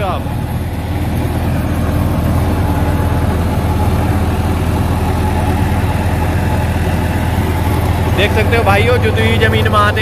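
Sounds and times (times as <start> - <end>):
rotavator blades churning soil: 0.0 - 10.0
tractor engine running: 0.0 - 10.0.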